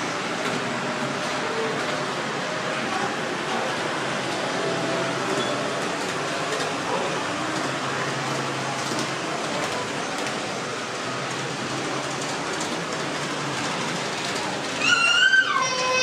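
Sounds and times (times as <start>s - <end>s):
model trains running: 0.0s - 16.0s.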